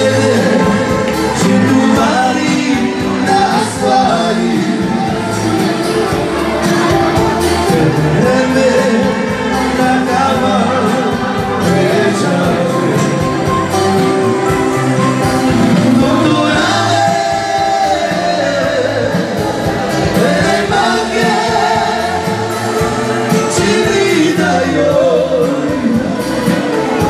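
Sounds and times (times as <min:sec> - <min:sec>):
dance band playing: 0:00.0 - 0:27.0
person singing: 0:00.0 - 0:27.0.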